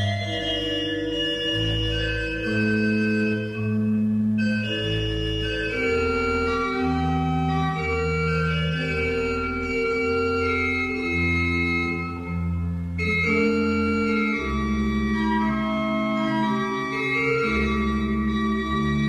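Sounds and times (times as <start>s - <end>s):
slow organ chords: 0.0s - 19.0s.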